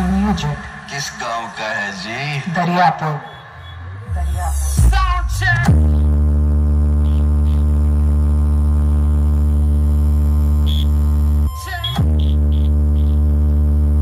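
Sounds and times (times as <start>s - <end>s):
deep droning bass tone: 0.0s - 14.0s.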